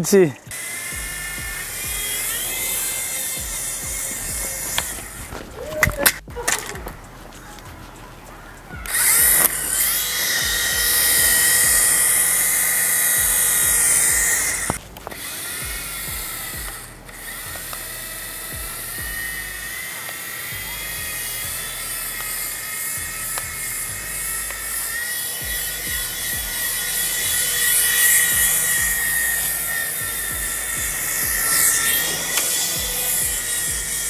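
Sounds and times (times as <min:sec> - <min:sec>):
toy helicopter motor whining: 0:00.5 - 0:34.0.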